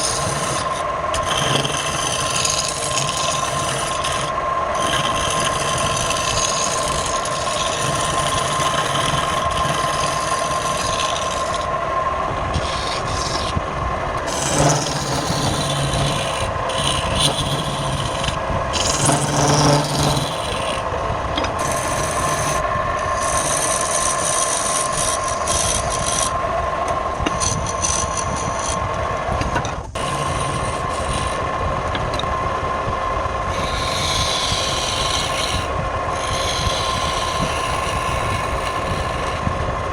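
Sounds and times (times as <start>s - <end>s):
lathe motor hum: 0.0s - 39.9s
tool scraping spinning wood: 0.0s - 39.9s.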